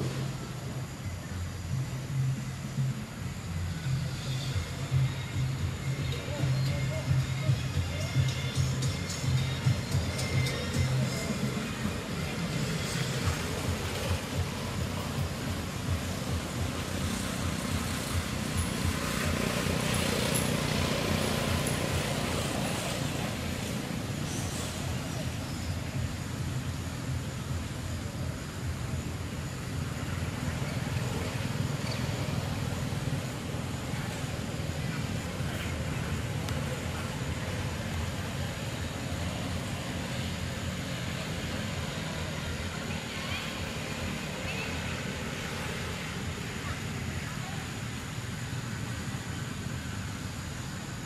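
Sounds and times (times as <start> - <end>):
even hiss: 0.0 - 51.0
outdoor background rumble: 0.0 - 51.0.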